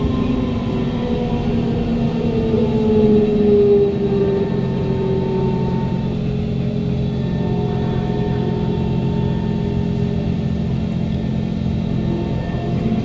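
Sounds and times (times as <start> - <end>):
train traction motors humming: 0.0 - 13.0
wheels rumbling on track: 0.0 - 13.0.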